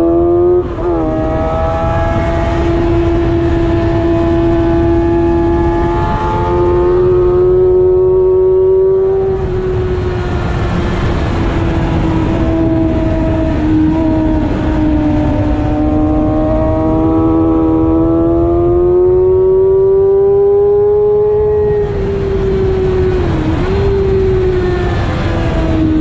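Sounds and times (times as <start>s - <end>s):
motorcycle engine at high revs: 0.0s - 26.0s
wind rushing: 0.0s - 26.0s.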